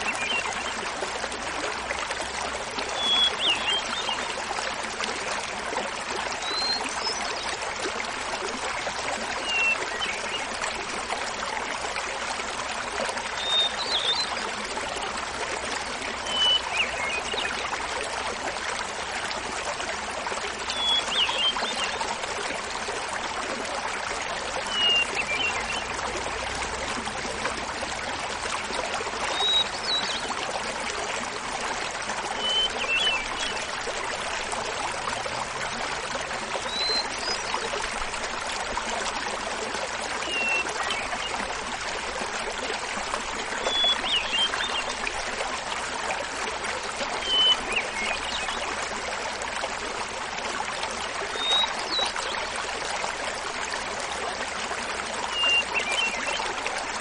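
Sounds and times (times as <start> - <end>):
waterfall babbling: 0.0 - 57.0.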